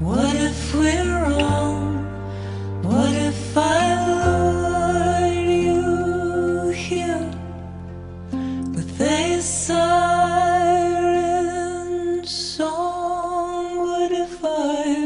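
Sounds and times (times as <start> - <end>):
soft musical accompaniment: 0.0 - 15.0
woman singing slow song: 0.0 - 15.0.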